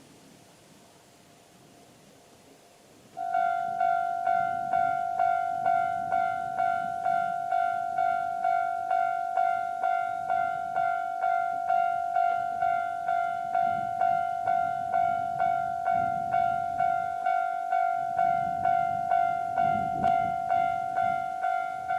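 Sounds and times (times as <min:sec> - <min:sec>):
level crossing warning bell: 0:03.2 - 0:21.9.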